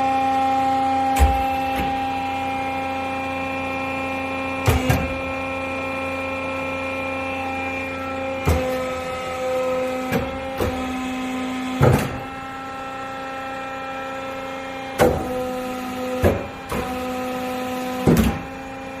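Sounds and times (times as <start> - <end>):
metal press motor humming: 0.0 - 19.0.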